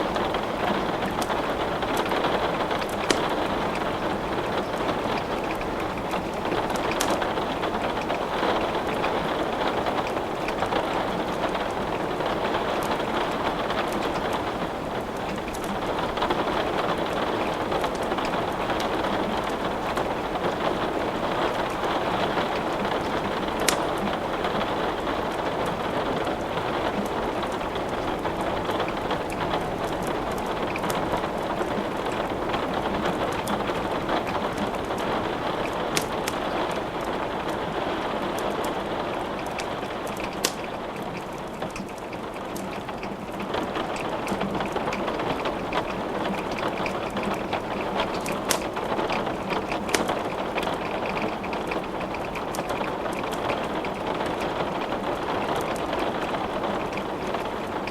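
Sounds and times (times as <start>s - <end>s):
rain hiss: 0.0s - 57.9s
wood fire crackling: 0.0s - 57.9s.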